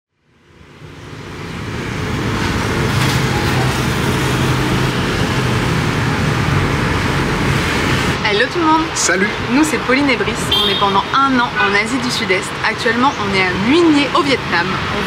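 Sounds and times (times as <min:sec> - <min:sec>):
continuous rushing noise: 0:00.2 - 0:15.0.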